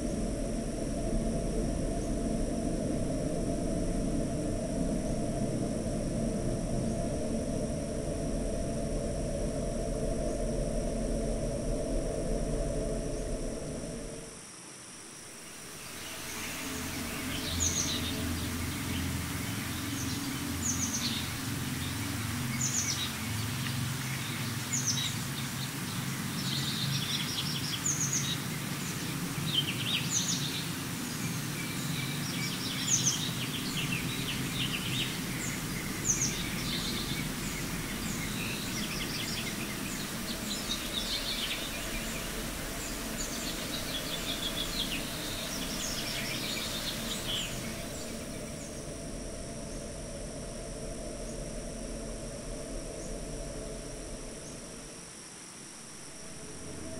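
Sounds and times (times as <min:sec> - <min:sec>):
low background noise: 0:00.0 - 0:56.9.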